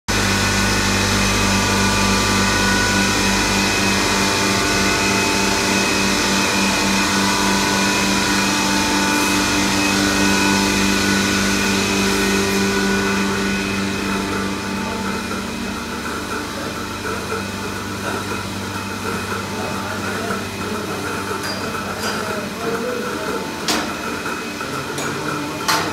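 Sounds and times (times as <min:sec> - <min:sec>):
vacuum pump humming and pulsing: 0:00.1 - 0:25.9.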